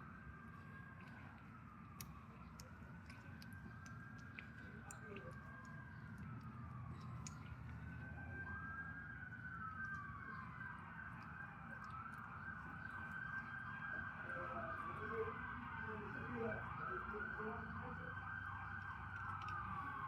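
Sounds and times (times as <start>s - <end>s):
emergency sirens wailing: 0.0s - 20.0s.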